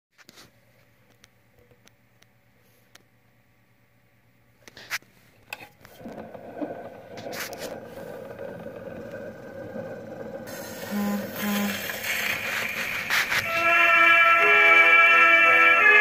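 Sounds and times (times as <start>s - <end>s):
record surface hiss and crackle: 0.2s - 13.8s.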